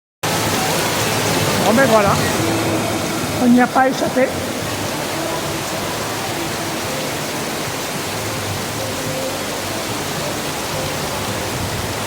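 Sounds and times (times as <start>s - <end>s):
heavy rain pouring: 0.2s - 12.0s.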